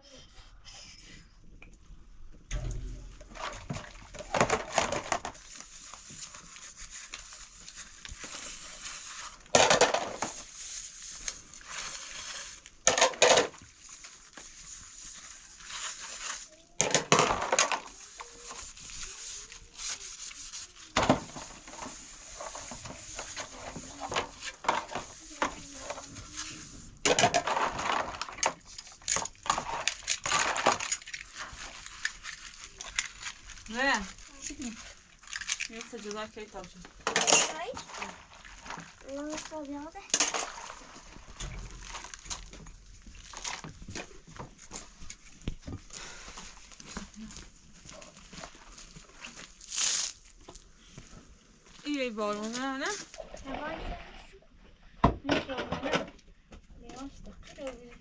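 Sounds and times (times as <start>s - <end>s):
objects scraping and knocking: 2.3s - 49.6s, 50.4s - 58.0s.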